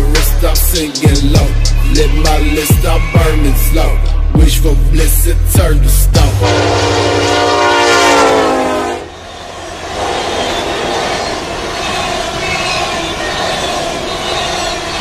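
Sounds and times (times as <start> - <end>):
locomotive horn: 0.0 - 5.3, 6.2 - 15.0.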